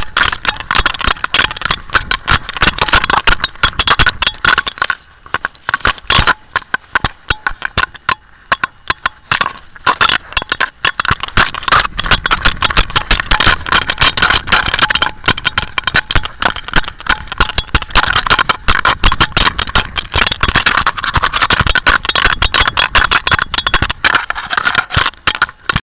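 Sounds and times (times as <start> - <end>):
camera scraping and rattling: 0.0 - 25.8.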